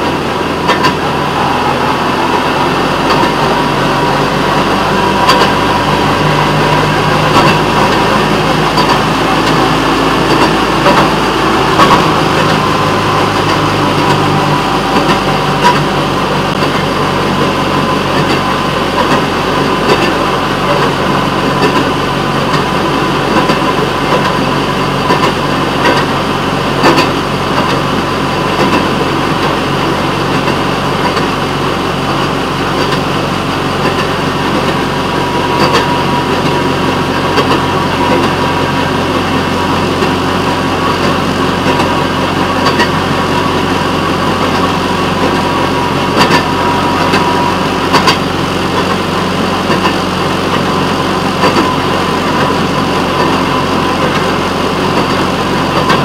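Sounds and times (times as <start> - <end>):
small engine running steadily: 0.0 - 56.0.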